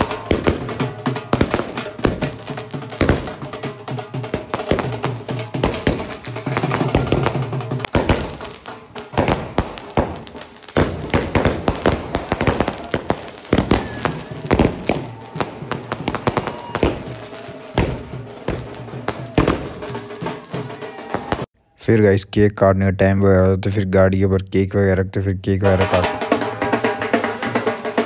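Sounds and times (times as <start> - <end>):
band music with drums: 0.0 - 21.5, 25.6 - 28.0
firecrackers banging: 0.0 - 21.5, 25.6 - 28.0.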